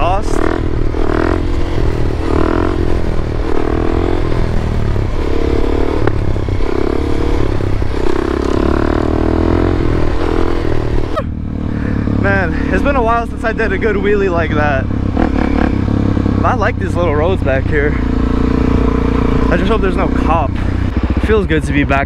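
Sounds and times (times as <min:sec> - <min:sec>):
motorcycle engine revving in surges: 0:00.0 - 0:22.0.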